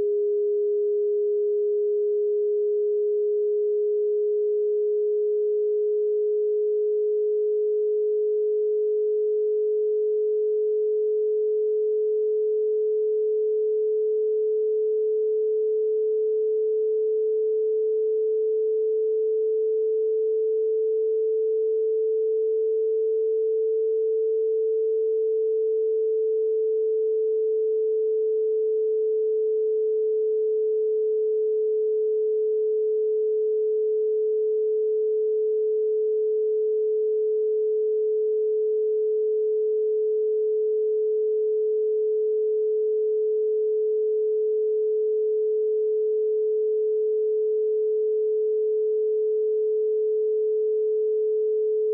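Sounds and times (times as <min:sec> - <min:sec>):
pure sine tone: 0:00.0 - 0:51.9.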